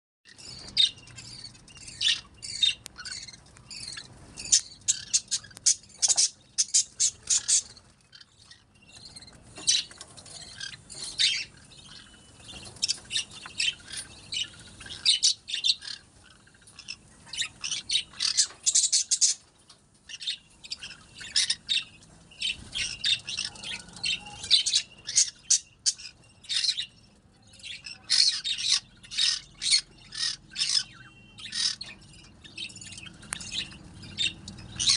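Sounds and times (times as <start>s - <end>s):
lovebirds chirping and squawking: 0.3s - 34.9s.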